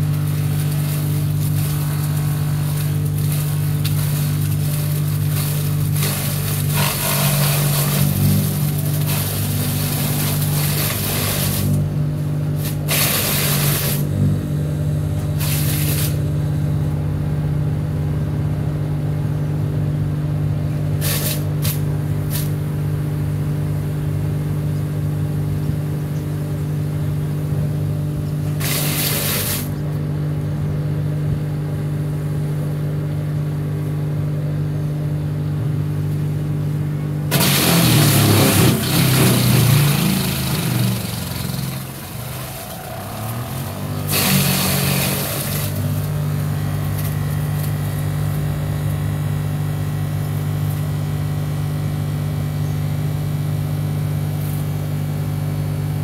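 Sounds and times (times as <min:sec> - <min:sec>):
wood chipper grinding branches: 0:00.0 - 0:56.0
wood chipper motor humming: 0:00.0 - 0:56.0.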